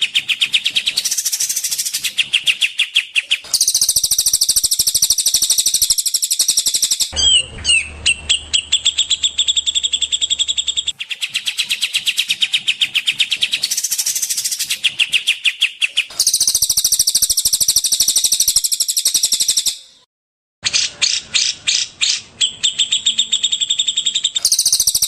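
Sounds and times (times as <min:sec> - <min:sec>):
songbirds trilling: 0:00.0 - 0:20.0, 0:20.6 - 0:25.0.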